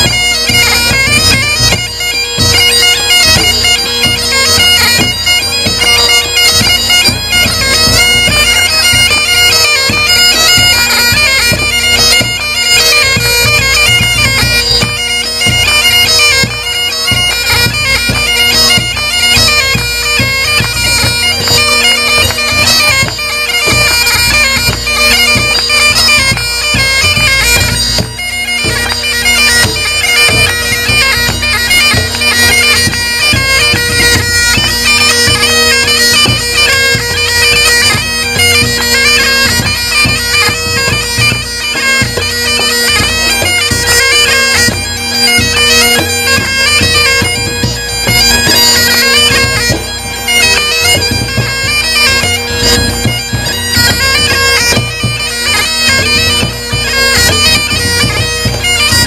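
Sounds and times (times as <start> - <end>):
bagpipe playing a tune: 0.0 - 59.0.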